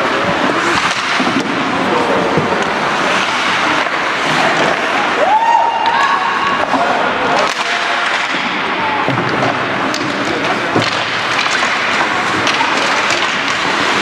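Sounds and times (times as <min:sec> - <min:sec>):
sticks and puck clacking: 0:00.0 - 0:14.0.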